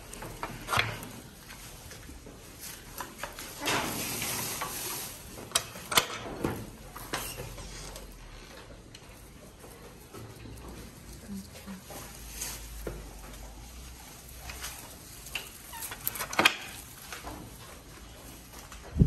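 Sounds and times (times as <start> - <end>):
goats chewing grass: 0.0 - 19.0.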